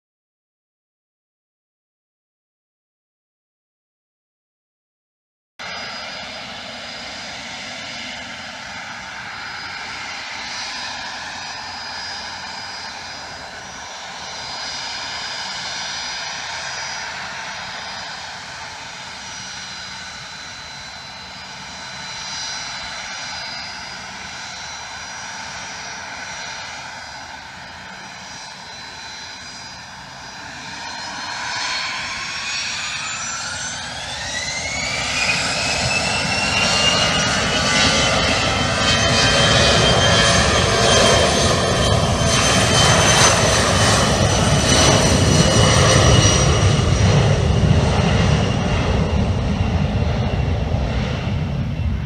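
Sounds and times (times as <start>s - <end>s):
jet engines whining: 5.6s - 52.0s.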